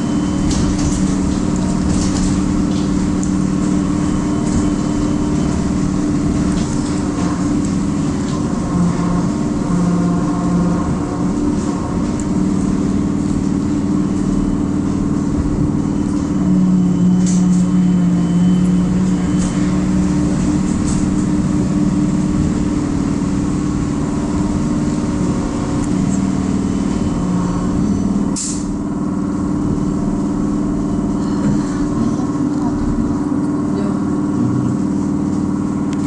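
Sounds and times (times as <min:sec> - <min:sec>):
trolleybus electric hum: 0:00.0 - 0:36.0
tyre noise on wet road: 0:00.0 - 0:36.0.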